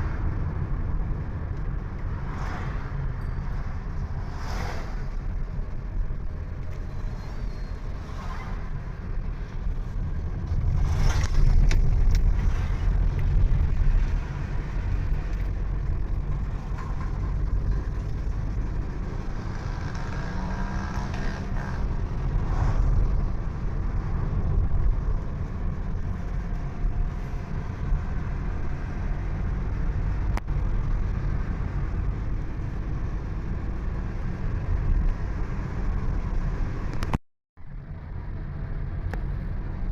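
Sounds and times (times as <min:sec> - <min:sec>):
vehicle engine and tyre rumble: 0:00.0 - 0:39.9.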